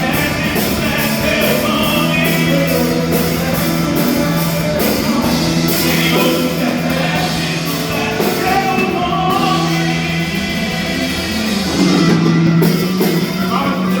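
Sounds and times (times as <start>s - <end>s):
worship song with rock band: 0.0s - 14.0s.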